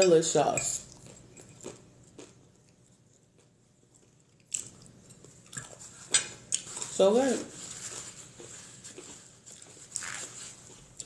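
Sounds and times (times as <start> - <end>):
chewing: 0.8 - 7.0, 7.8 - 11.0.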